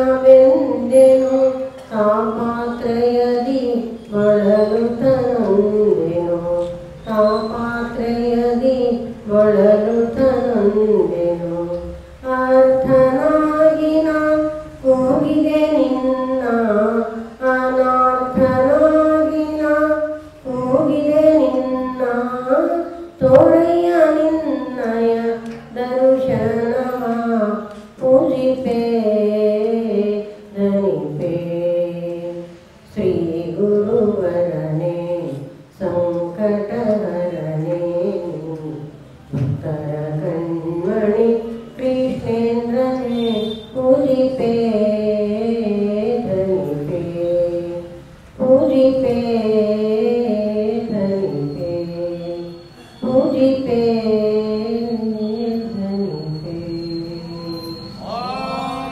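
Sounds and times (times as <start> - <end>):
elderly woman singing: 0.0 - 58.9.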